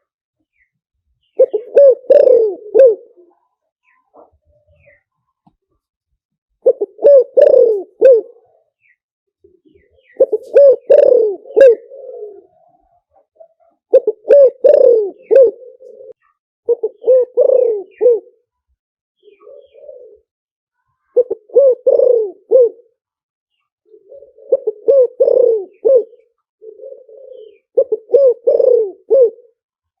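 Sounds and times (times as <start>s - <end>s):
dove cooing: 1.3s - 5.0s, 6.6s - 8.7s, 9.4s - 18.5s, 19.2s - 23.0s, 23.9s - 29.6s.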